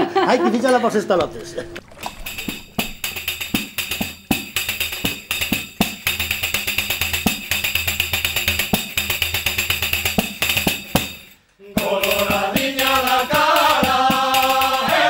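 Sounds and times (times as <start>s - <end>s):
frame drum with jingles: 2.2s - 15.0s.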